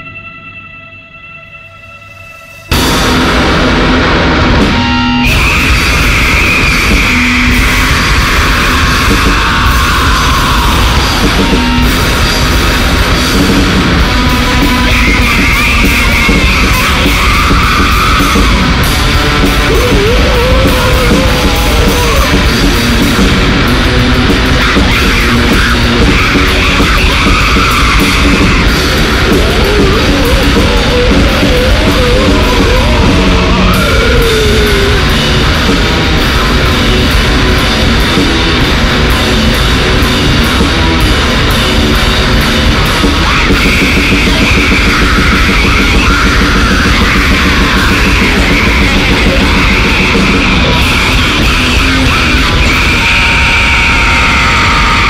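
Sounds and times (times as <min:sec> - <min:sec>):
loud grindcore music: 0:02.6 - 0:55.0.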